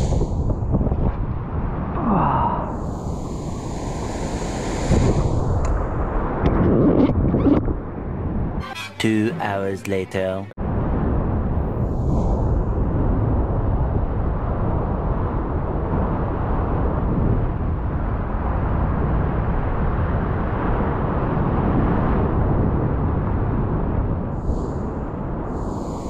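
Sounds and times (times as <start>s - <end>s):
wind rumbling on microphone: 0.0s - 8.6s, 10.6s - 26.0s.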